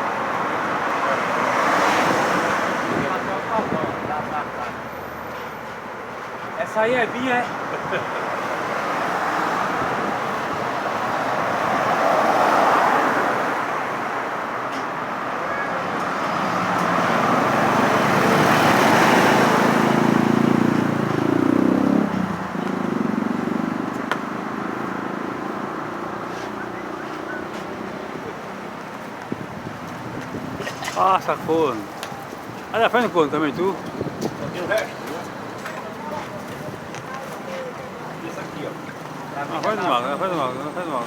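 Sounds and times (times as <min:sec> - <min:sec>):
motorcycles passing: 0:00.0 - 0:04.9, 0:06.6 - 0:41.0
road traffic passing: 0:00.0 - 0:41.0.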